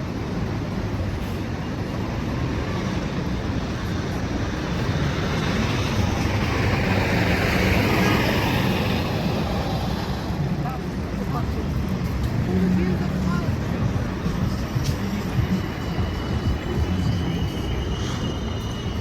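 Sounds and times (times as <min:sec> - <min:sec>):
rumble of vehicles: 0:00.0 - 0:19.0.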